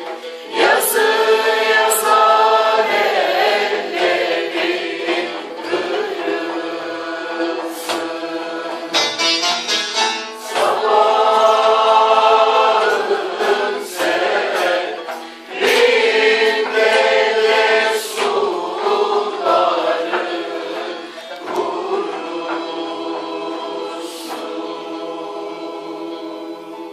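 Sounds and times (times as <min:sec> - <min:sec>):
group of voices singing: 0:00.0 - 0:09.2, 0:10.4 - 0:26.9
strummed lutes: 0:00.0 - 0:26.9.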